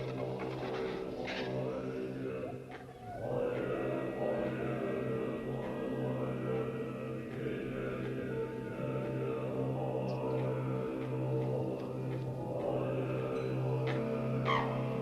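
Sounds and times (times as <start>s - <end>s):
sustained chant-like tones: 0.0s - 15.0s.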